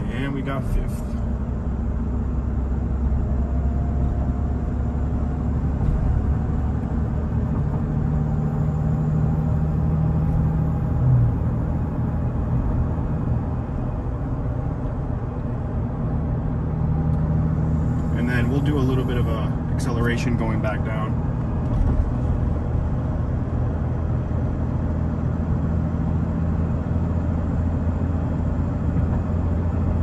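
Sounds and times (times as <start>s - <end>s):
truck engine drone: 0.0s - 30.0s.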